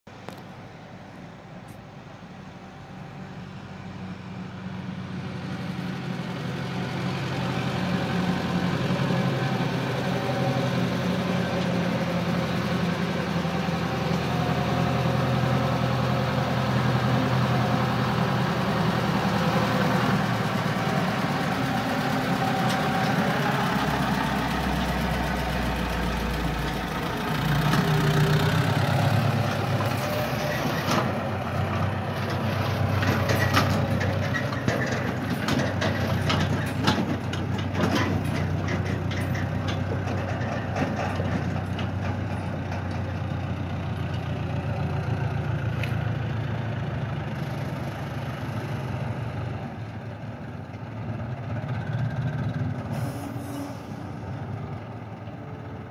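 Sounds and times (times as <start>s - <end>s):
tractor diesel engine rumble: 0.1s - 55.9s.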